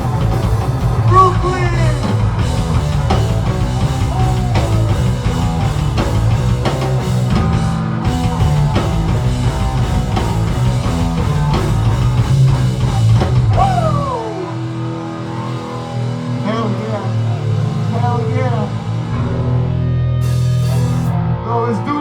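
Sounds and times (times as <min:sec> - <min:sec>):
guitar pitch slide: 0:00.0 - 0:21.5
punk rock band playing live: 0:00.0 - 0:21.5.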